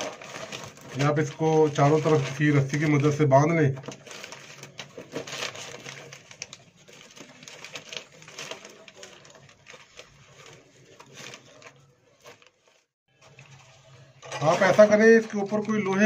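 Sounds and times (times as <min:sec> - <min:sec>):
newspaper rustling and crinkling: 0:00.0 - 0:16.0.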